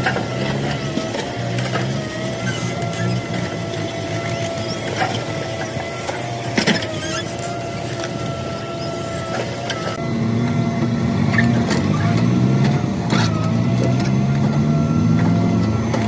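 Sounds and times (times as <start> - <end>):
excavator engine running: 0.0 - 16.0
mechanical whine: 0.0 - 16.0.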